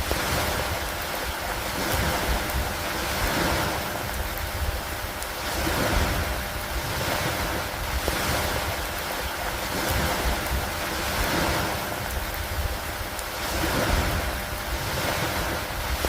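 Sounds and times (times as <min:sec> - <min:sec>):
rain on wood and water: 0:00.0 - 0:16.0.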